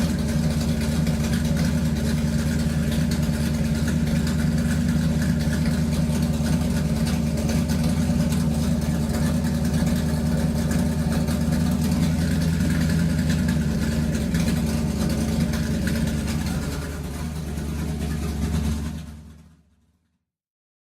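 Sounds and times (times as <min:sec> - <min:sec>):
motor running with low hum: 0:00.0 - 0:19.4.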